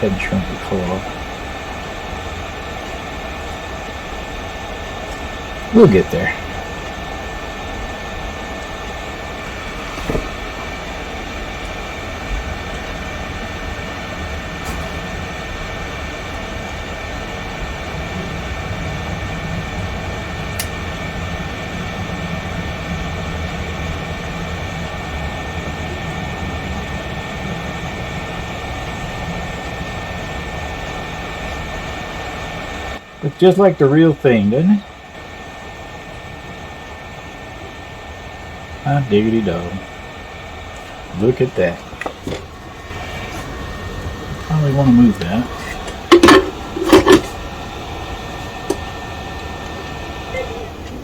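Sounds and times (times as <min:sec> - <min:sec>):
heat gun fan blowing with whine: 0:00.0 - 0:51.0.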